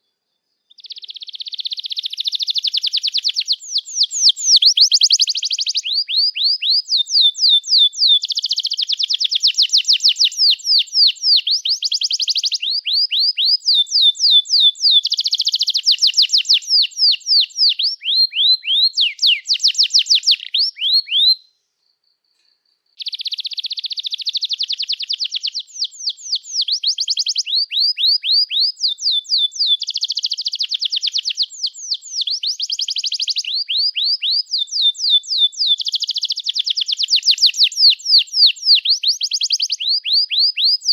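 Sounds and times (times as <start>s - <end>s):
canary singing rapid trills: 0.7s - 21.4s, 23.0s - 40.9s.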